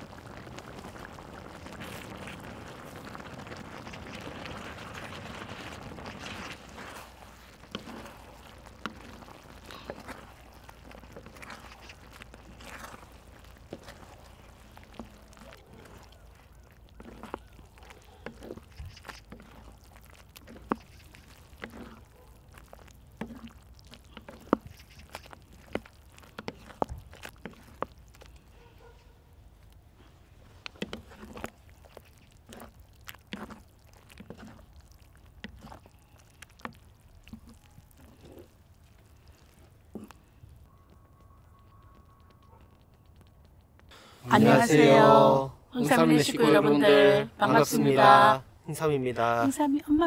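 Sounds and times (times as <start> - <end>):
sauce simmering: 0.0 - 49.3.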